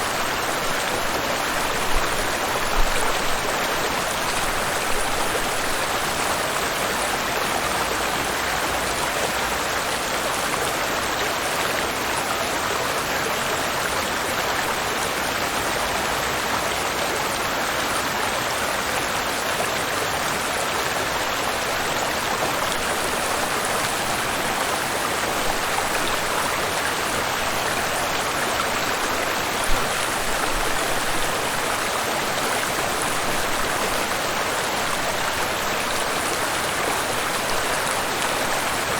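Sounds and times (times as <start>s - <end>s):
waterfall and river rushing: 0.0s - 38.9s.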